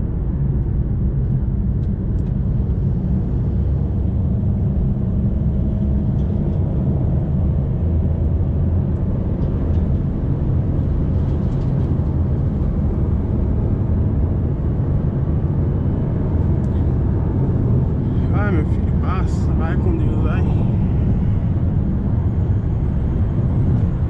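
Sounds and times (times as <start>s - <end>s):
pickup engine drone: 0.0s - 24.0s
road noise: 0.0s - 24.0s.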